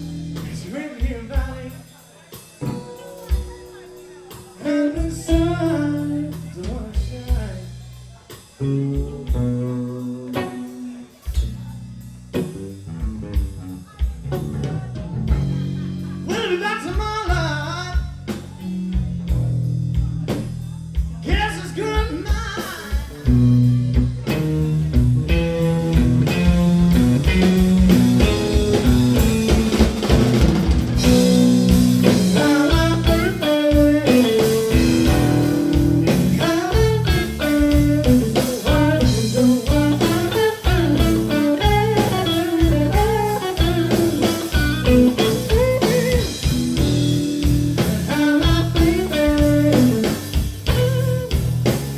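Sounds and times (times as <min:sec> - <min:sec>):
bass guitar: 0:00.0 - 0:51.9
drum kit: 0:00.0 - 0:51.9
electric guitar: 0:02.3 - 0:20.5, 0:22.3 - 0:51.9.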